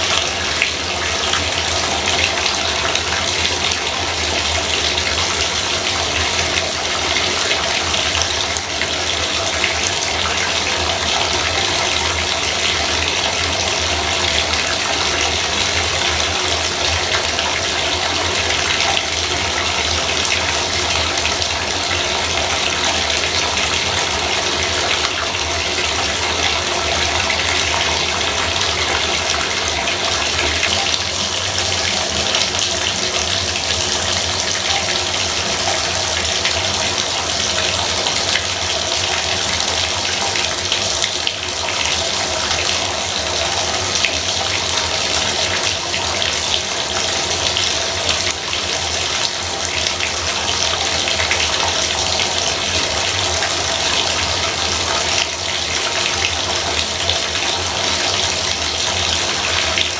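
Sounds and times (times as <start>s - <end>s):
faucet water splashing into tub: 0.0s - 59.9s.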